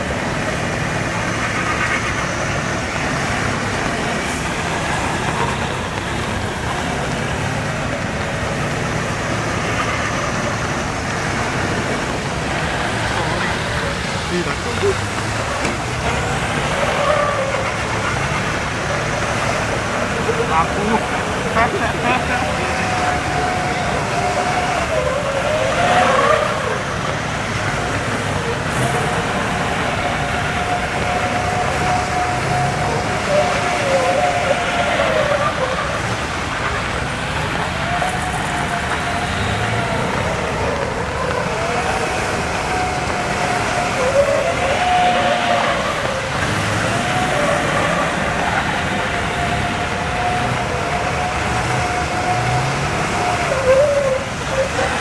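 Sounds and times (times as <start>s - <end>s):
outdoor rumble: 0.0s - 55.0s
truck engine running: 0.0s - 55.0s.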